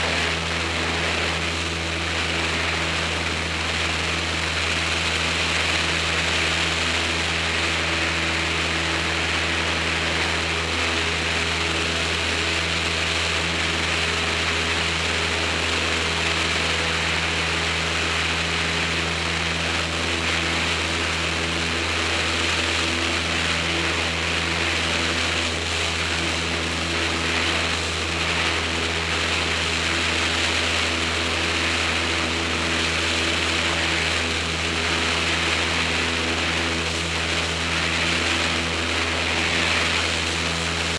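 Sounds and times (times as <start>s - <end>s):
propeller airplane engine droning: 0.0s - 40.9s.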